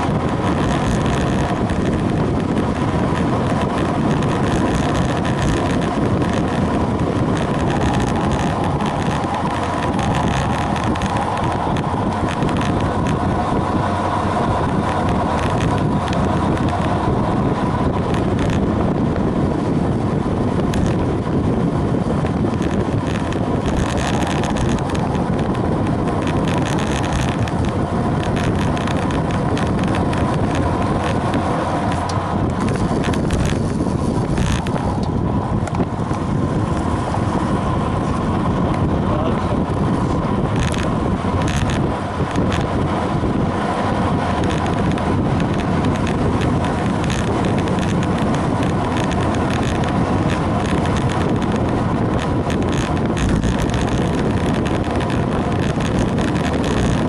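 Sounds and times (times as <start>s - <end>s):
tyre noise on road: 0.0s - 57.0s
wind rushing over microphone: 0.0s - 57.0s.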